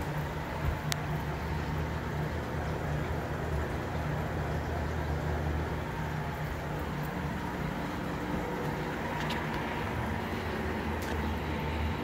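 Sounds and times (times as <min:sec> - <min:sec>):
aquarium pumps humming: 0:00.0 - 0:12.0.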